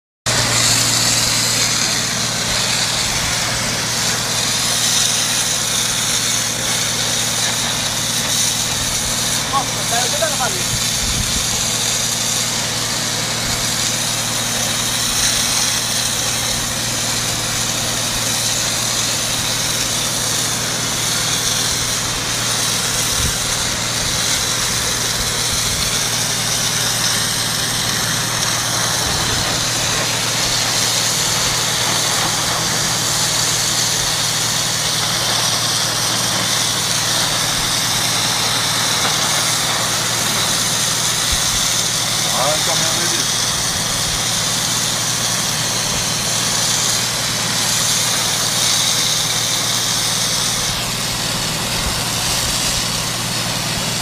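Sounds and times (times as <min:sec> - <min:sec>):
pressure washer motor hum: 0:00.2 - 0:54.0
high-pressure water jet hissing: 0:00.3 - 0:54.0.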